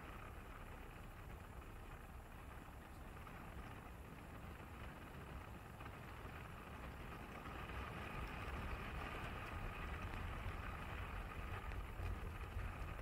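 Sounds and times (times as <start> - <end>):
tyre and road noise: 0.0 - 13.0.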